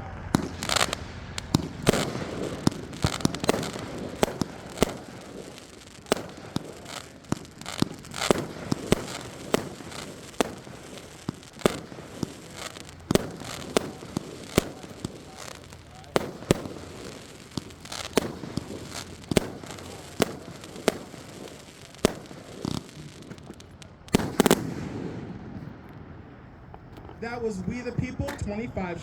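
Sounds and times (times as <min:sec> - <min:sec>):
firework booms: 0:00.0 - 0:28.6
firework crackling: 0:00.0 - 0:29.0.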